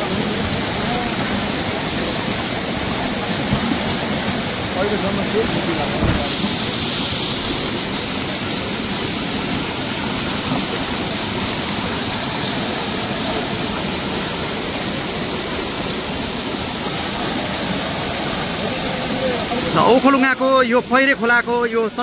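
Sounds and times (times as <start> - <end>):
floodwater rushing over road: 0.0 - 22.0.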